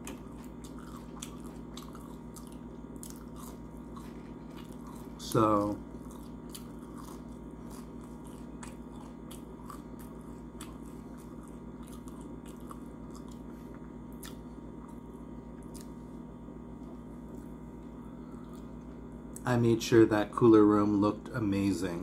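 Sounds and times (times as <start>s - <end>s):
chewing crunches: 0.0s - 16.1s, 16.7s - 19.5s
steady low hum: 0.0s - 22.0s.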